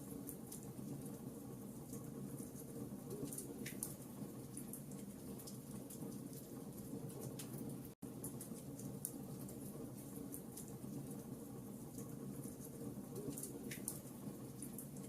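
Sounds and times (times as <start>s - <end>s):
logs crackling in fireplace: 0.0s - 15.0s.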